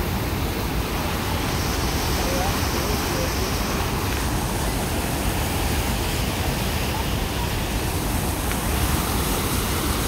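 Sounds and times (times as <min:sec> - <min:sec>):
loud rush of water: 0:00.0 - 0:10.0.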